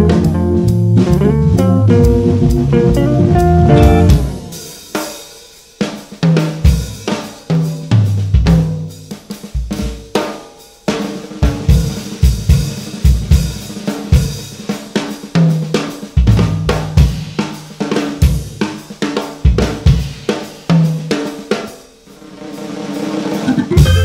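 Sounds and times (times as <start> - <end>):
jazz drum kit solo: 0.0 - 24.0.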